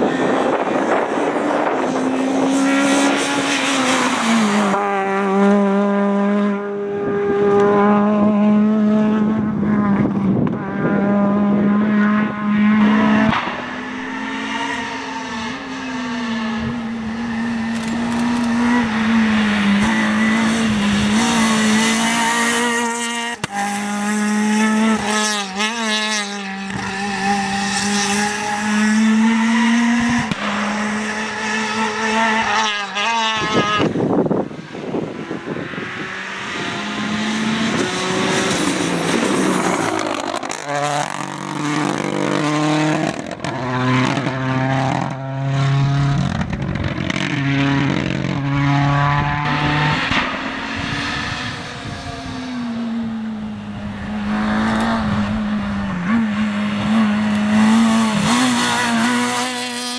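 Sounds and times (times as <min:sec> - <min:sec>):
rally car accelerating through gears: 0:00.0 - 0:59.9
rally car engine at high revs: 0:00.0 - 0:59.9.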